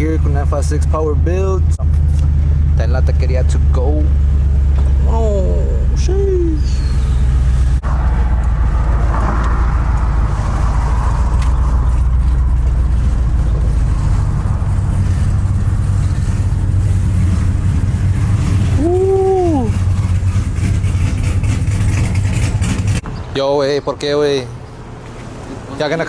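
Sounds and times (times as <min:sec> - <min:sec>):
pickup truck engine droning: 0:00.0 - 0:23.3.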